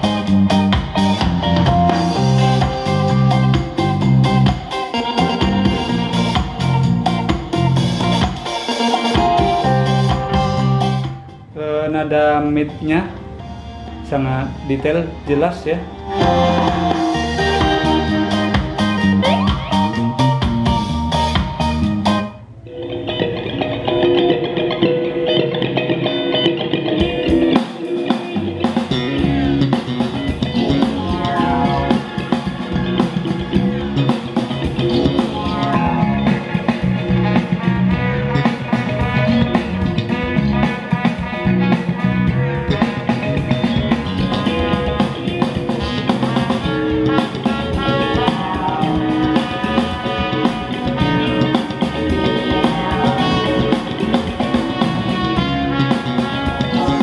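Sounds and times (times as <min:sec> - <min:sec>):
guitar song with drums: 0:00.0 - 0:11.5, 0:15.9 - 0:57.0.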